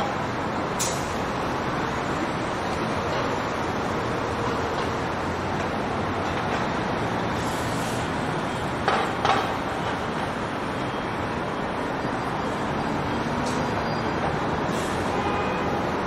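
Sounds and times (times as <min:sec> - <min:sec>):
rail noise: 0:00.0 - 0:16.0
traffic noise: 0:00.0 - 0:16.0.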